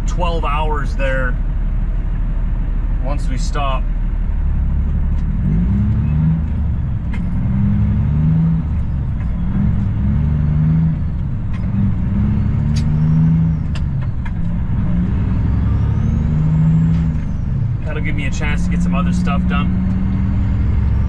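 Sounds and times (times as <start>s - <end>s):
truck diesel engine: 0.0s - 21.0s.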